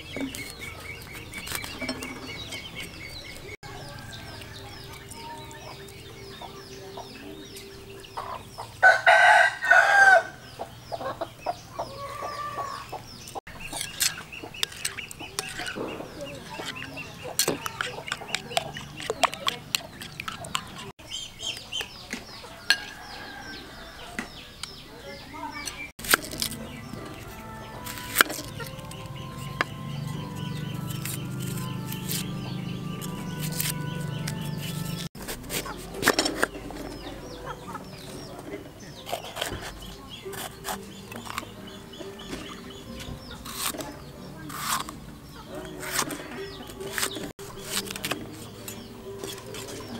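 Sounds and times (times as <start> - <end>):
chickens clucking: 0.0 - 49.9
small birds chirping: 0.0 - 49.9.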